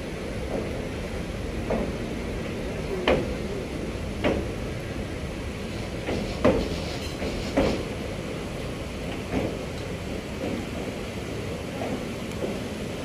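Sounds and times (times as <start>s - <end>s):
train rumbling: 0.0s - 13.0s
train wheels clacking on rail joints: 0.3s - 3.5s, 4.1s - 4.9s, 5.5s - 13.0s.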